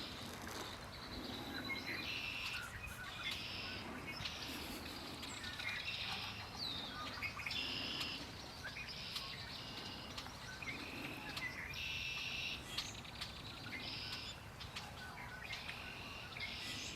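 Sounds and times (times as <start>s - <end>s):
songbirds trilling: 0.0s - 16.9s.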